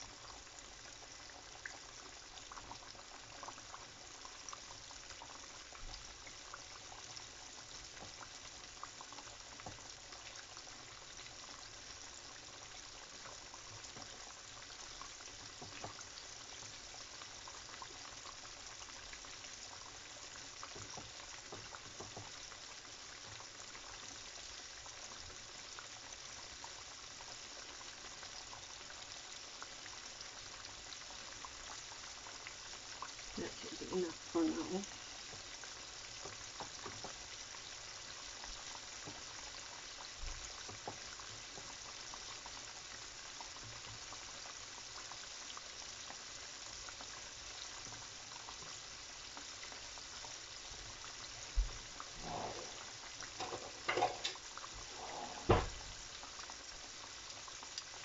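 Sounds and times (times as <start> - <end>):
chicken deep-frying in oil: 0.0 - 58.0.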